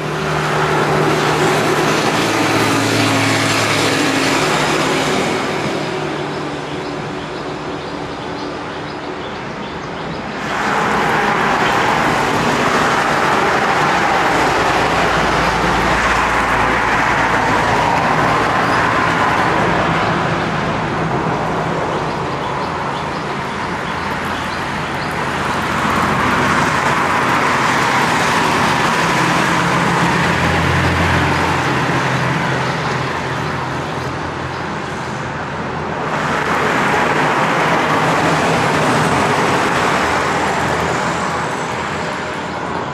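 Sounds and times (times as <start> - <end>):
cars and motorbikes passing: 0.0 - 42.9.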